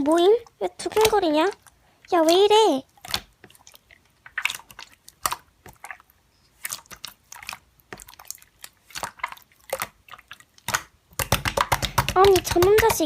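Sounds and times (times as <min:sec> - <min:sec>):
hands squishing slime: 0:00.0 - 0:13.0.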